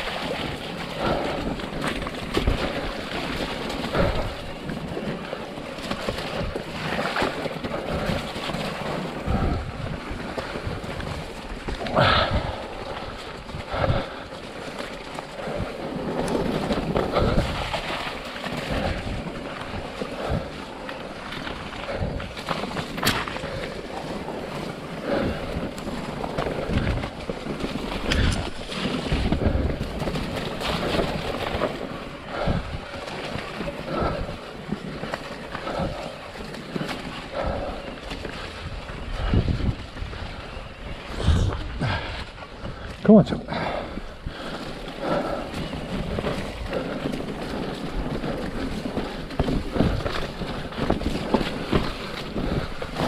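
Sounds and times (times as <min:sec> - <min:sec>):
wind on microphone: 0:00.0 - 0:14.3, 0:15.3 - 0:53.0
bike knocking and rattling: 0:00.0 - 0:53.0.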